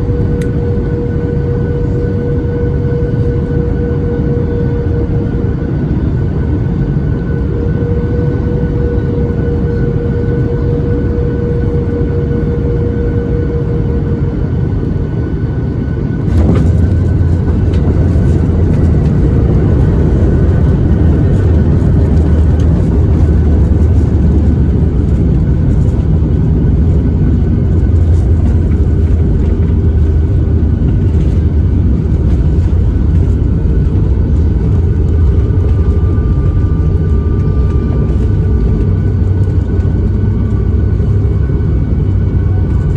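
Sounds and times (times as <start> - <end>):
heavy steady rumble: 0.0 - 42.9
jet engine and airflow noise: 0.0 - 42.9.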